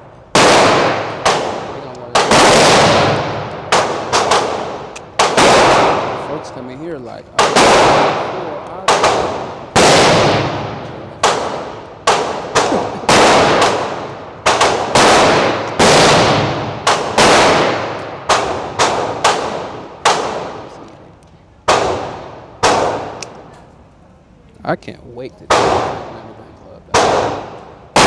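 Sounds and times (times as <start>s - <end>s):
gunshots echoing indoors: 0.0s - 20.9s, 21.6s - 23.6s, 25.4s - 28.0s.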